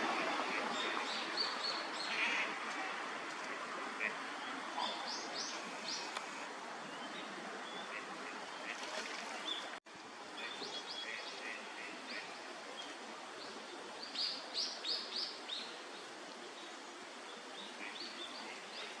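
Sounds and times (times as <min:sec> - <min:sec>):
park background hiss: 0:00.0 - 0:19.0.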